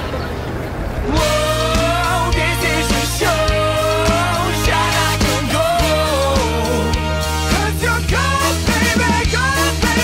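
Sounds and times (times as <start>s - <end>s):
pop song with sung melody: 1.1s - 10.0s.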